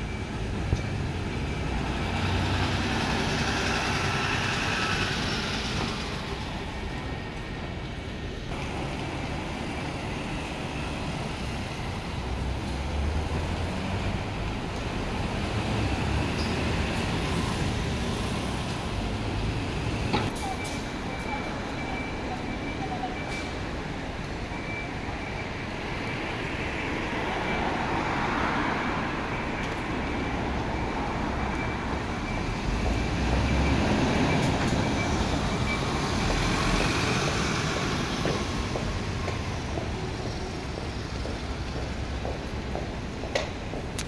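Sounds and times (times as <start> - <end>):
bus engine and tyres: 0.0 - 44.0
street traffic: 0.0 - 44.0.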